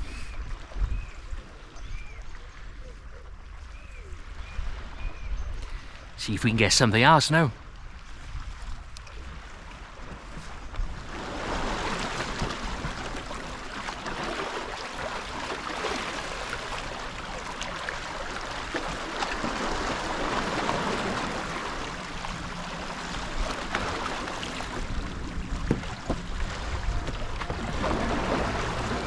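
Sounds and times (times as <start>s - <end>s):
water at the shoreline: 0.0s - 29.0s
wind: 0.0s - 29.0s.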